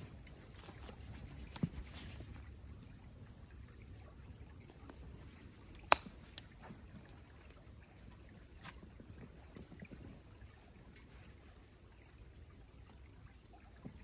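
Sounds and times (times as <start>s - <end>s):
creek water trickling: 0.0s - 14.0s.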